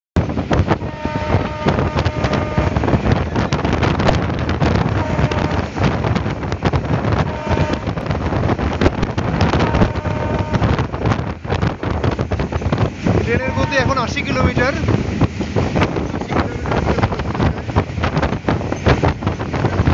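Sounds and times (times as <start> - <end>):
train wheels rumbling on rails: 0.2 - 19.9
wind rushing past: 0.2 - 19.9.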